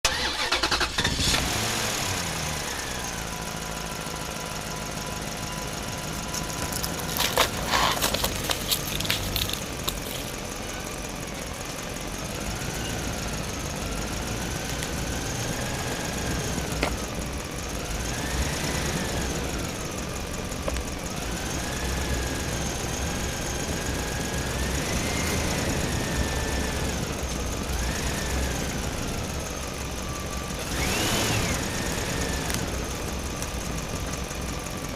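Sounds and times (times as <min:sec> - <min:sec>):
engine whine: 0:00.0 - 0:34.9
small diesel engine knocking: 0:00.1 - 0:34.9.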